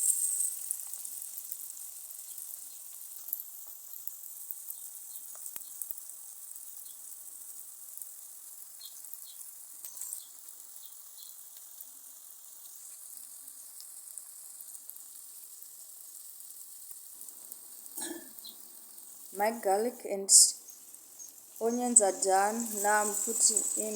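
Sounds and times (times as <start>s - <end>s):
onions sizzling in a frying pan: 0.0s - 23.9s.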